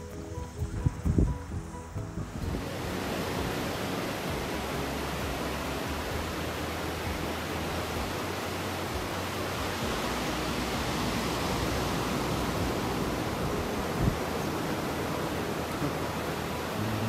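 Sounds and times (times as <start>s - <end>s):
waves breaking on beach: 2.4s - 17.0s.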